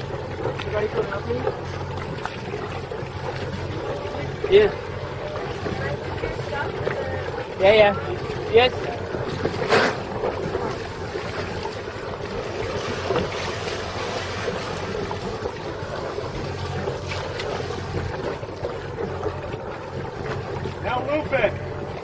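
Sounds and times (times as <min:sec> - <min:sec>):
outboard motor humming: 0:00.0 - 0:22.0
rush of wind and water: 0:00.0 - 0:22.0.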